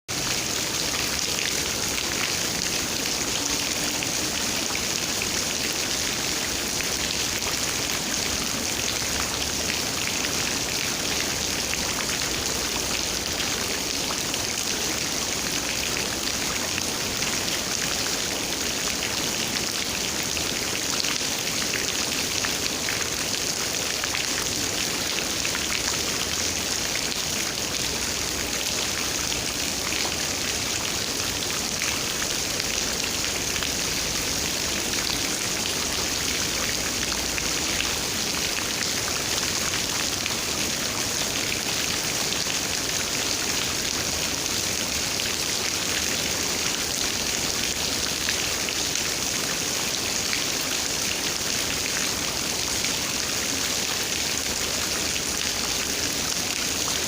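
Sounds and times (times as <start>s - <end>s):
steady rain: 0.1s - 57.0s.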